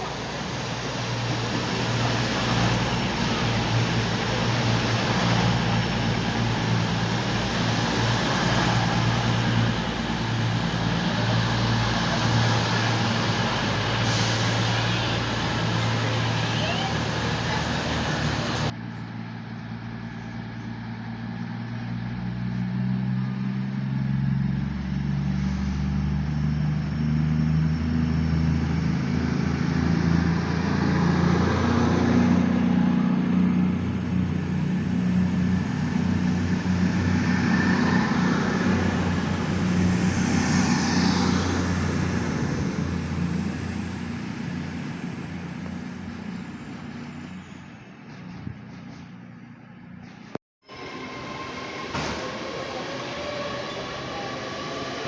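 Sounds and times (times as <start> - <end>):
train engine running: 0.0 - 23.4, 32.8 - 55.0.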